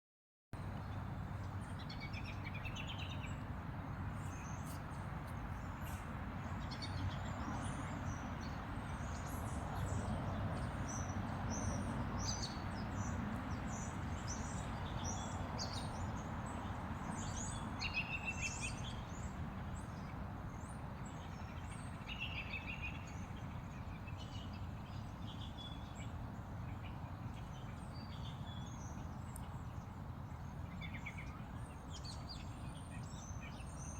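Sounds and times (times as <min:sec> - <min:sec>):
small birds chirping: 0:00.7 - 0:33.9.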